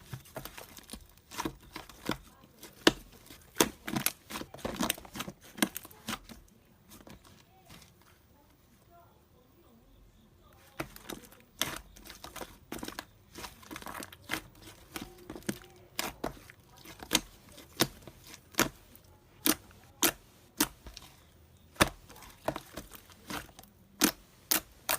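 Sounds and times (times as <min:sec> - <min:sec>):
slime squishing: 0:00.0 - 0:08.3, 0:10.6 - 0:24.9.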